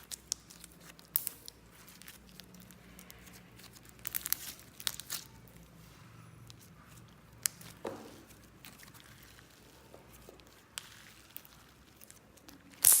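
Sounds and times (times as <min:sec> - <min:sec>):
slime squelching: 0:00.0 - 0:13.0.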